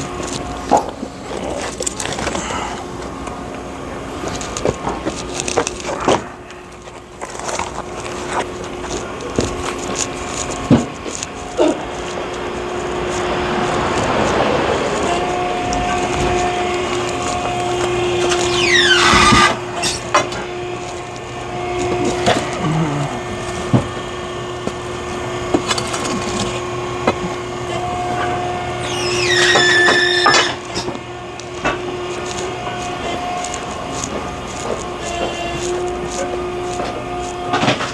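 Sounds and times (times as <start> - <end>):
wood creaking and cracking apart: 0.0 - 3.5, 4.1 - 31.5
hydraulic log splitter humming: 0.0 - 37.9.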